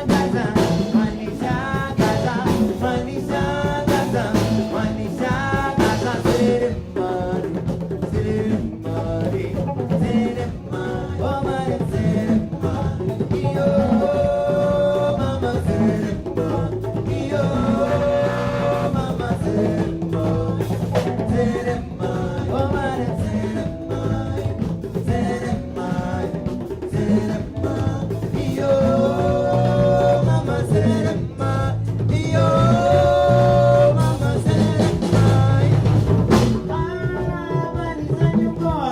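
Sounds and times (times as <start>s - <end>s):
drum kit beat: 0.0s - 38.9s
live band playing: 0.0s - 38.9s
person singing: 0.0s - 38.9s.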